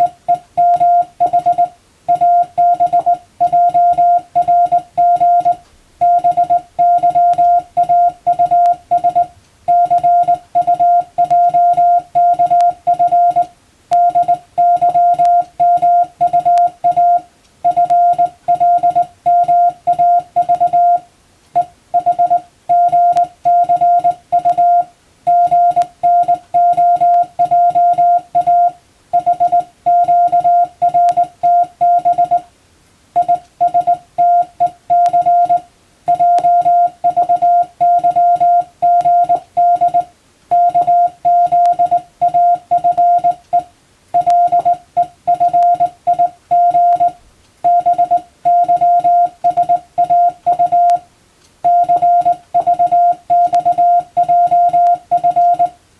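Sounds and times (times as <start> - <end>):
morse code beeping tone: 0.0 - 32.5, 33.2 - 55.8.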